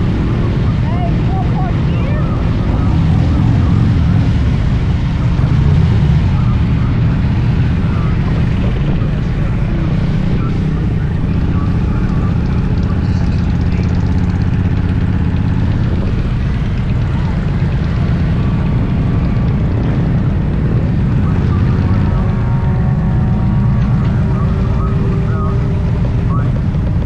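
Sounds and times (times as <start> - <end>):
motorcycle engine rumble: 0.0 - 27.0
wind noise on microphone: 0.0 - 27.0.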